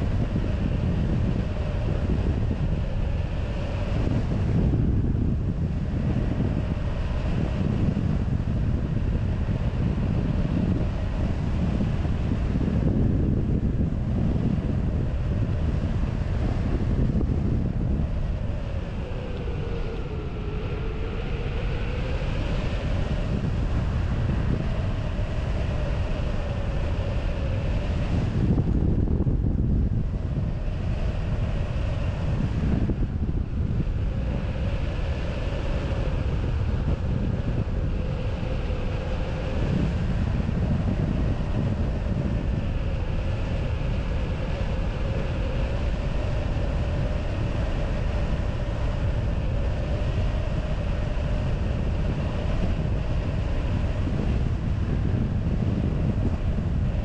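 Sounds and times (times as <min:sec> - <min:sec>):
low humming tone: 0:00.0 - 0:57.0
wind buffeting microphone: 0:00.0 - 0:57.0.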